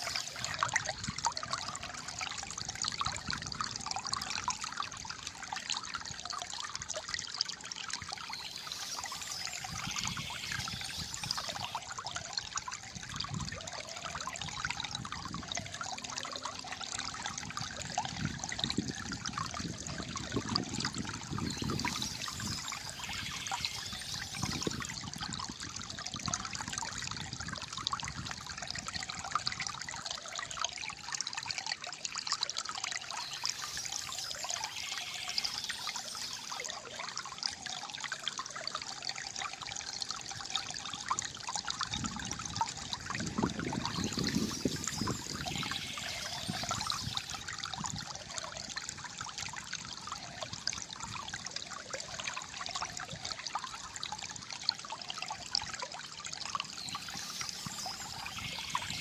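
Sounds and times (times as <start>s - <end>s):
water flowing over stones: 0.0s - 59.0s.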